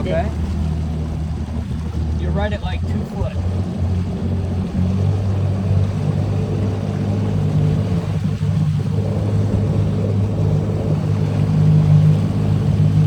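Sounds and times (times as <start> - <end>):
boat motor running: 0.0 - 13.0
water noise from hull: 0.0 - 13.0.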